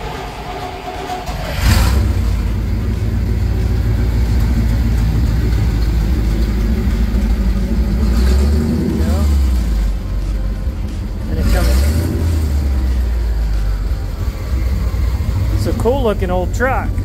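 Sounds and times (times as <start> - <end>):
truck engine starting and rumbling: 0.0 - 17.0.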